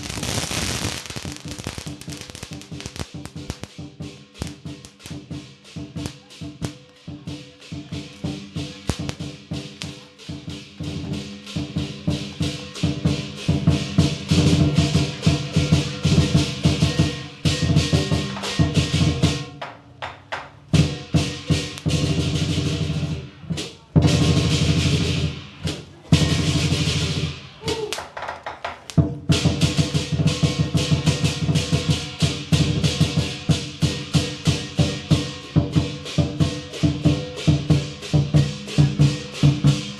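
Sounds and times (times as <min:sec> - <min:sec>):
drum and cymbals music: 0:00.0 - 0:28.1, 0:28.7 - 0:39.9
firecrackers crackling: 0:00.0 - 0:39.9.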